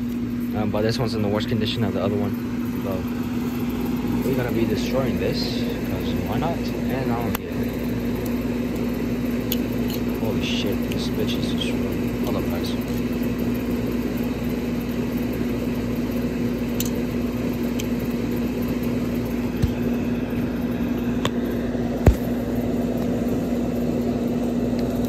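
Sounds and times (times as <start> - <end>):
mechanical drone of motor: 0.0 - 25.0.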